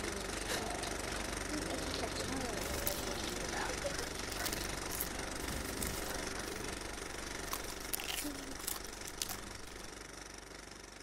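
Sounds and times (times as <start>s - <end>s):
projector humming and clattering: 0.0s - 11.0s.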